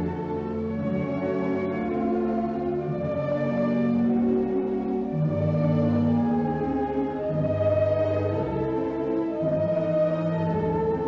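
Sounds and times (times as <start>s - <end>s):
orchestral music with held notes: 0.0s - 11.0s.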